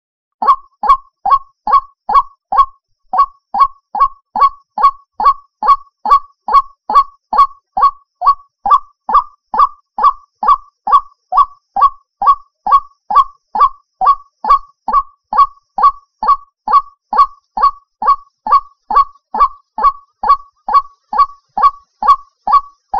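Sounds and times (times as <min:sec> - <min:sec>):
waterhen calling: 0:00.4 - 0:22.9.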